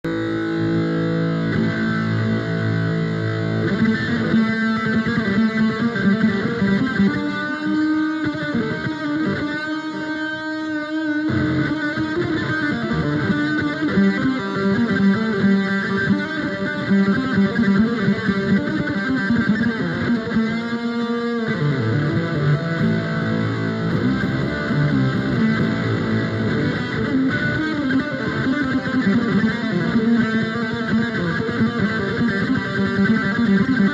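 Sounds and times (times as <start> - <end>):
electric guitar music: 0.0 - 33.9.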